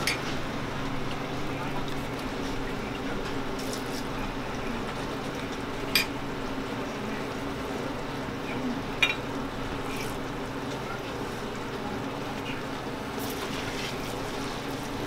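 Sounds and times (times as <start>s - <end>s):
syrup boiling and bubbling: 0.0s - 15.0s.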